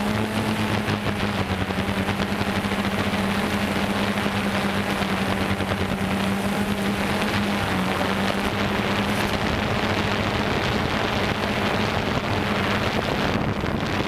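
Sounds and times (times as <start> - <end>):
quadcopter buzzing in flight: 0.0 - 14.0.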